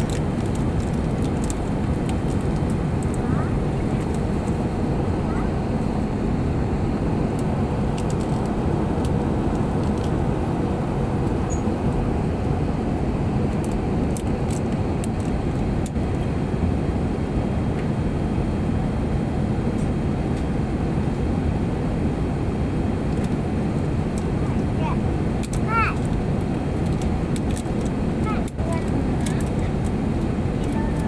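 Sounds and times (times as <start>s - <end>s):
jet engines and airflow rumble: 0.0s - 31.0s.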